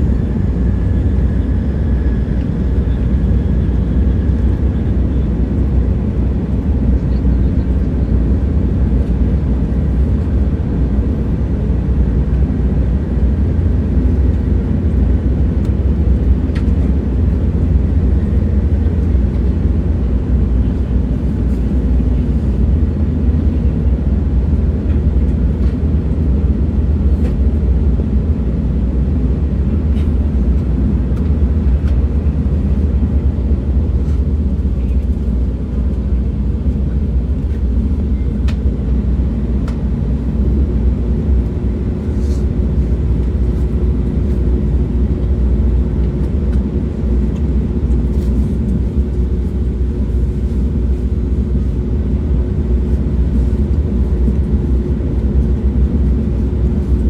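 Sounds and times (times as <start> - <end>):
moving train rumble: 0.0 - 57.0.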